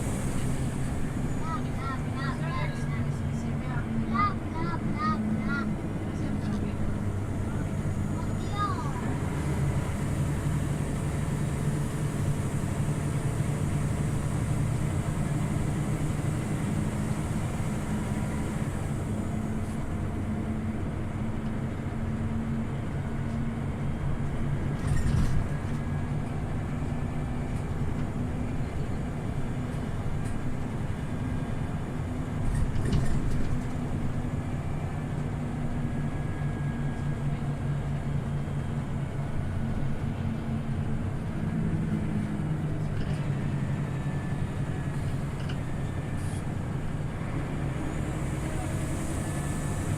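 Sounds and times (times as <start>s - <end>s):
bus engine drone: 0.0s - 49.9s
road noise: 0.0s - 49.9s.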